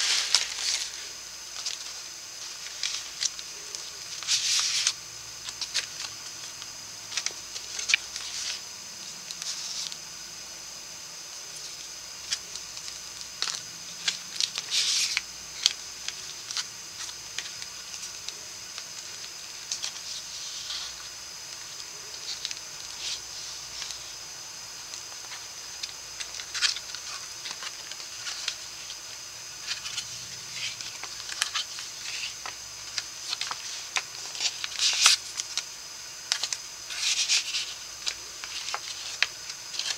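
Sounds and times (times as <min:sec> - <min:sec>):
paper rustling and sliding: 0:00.0 - 0:10.0, 0:11.4 - 0:24.2, 0:24.9 - 0:39.9
steady high hiss: 0:00.0 - 0:39.9.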